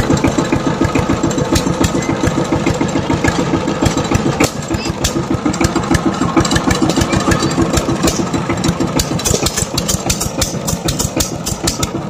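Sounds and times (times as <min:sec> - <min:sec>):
diesel engine idling chugging: 0:00.0 - 0:12.0.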